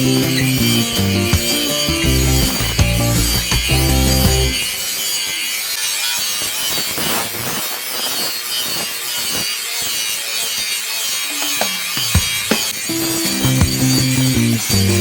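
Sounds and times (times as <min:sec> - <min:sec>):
hand tool rasping on steel: 0:00.0 - 0:15.0.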